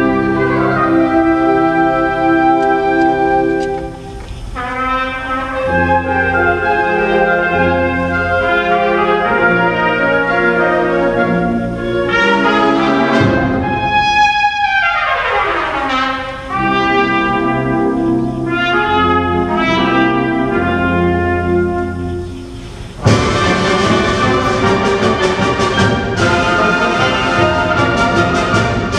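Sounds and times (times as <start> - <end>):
solo trumpet: 0.0 - 28.9
wind band playing: 0.0 - 28.9.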